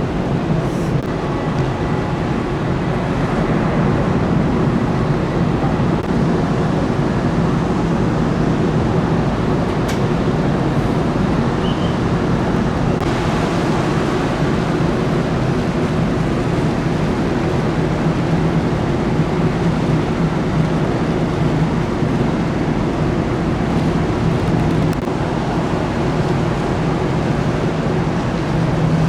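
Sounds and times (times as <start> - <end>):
sea noise: 0.0 - 29.0
ship engine drone: 0.0 - 29.0.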